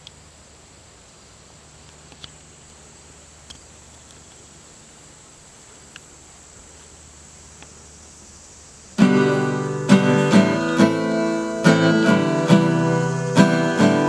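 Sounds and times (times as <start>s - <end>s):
high-pitched insect drone: 0.2s - 14.0s.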